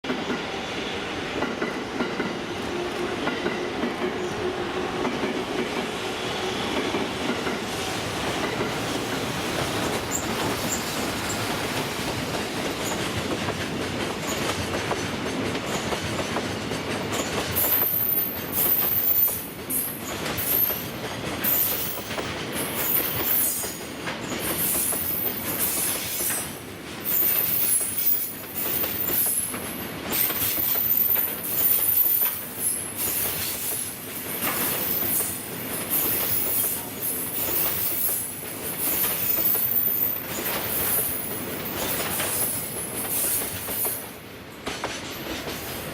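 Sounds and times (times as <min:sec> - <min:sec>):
train wheels rumbling on rail: 0:00.0 - 0:45.9
wagons clacking over rail joints: 0:08.3 - 0:45.9.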